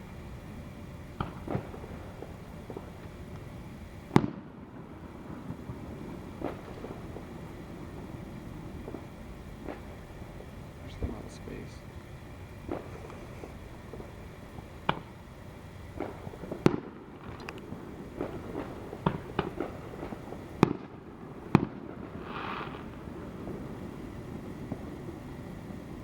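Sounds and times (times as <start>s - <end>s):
firework hiss: 0.0s - 26.0s
fireworks bangs and pops: 0.0s - 26.0s.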